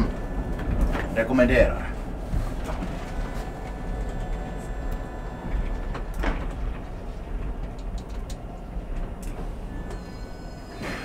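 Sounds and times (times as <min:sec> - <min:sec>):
steady whine: 0:00.0 - 0:11.0
tram wheels rumbling on rails: 0:00.0 - 0:11.0.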